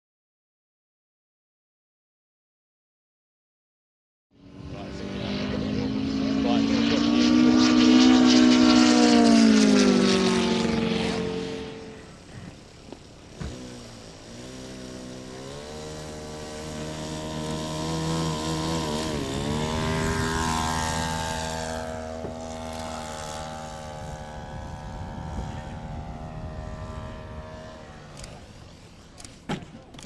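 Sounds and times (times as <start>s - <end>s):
model airplane engine running: 4.4s - 30.0s.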